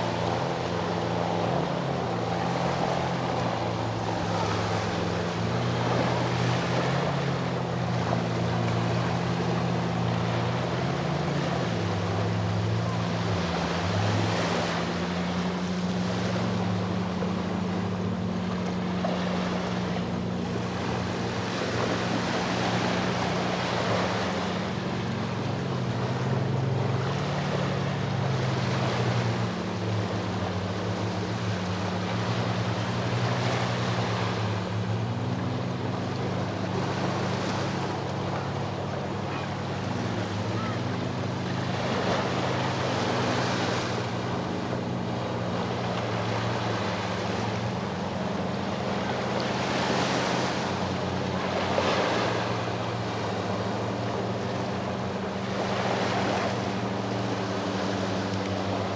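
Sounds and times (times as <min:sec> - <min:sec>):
low engine drone: 0:00.0 - 0:58.9
sea waves washing onto shore: 0:00.0 - 0:58.9.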